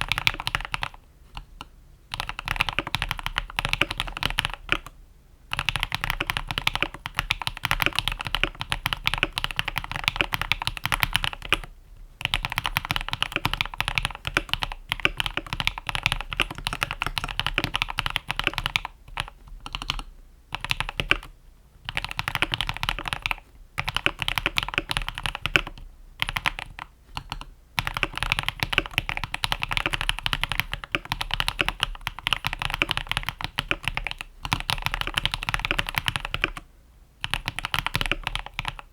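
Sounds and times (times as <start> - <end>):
fast typing on mechanical keyboard: 0.0 - 1.5, 2.1 - 4.9, 5.5 - 36.6, 37.2 - 38.9.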